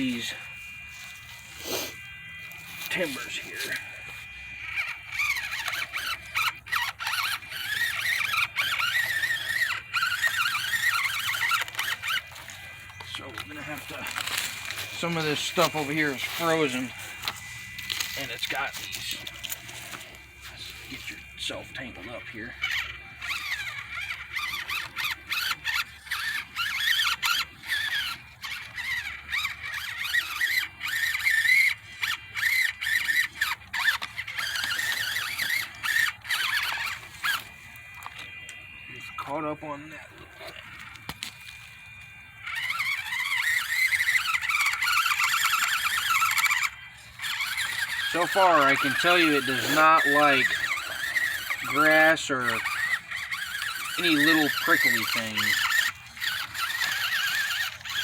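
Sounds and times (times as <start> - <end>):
toy truck motor whining: 0.0 - 58.0.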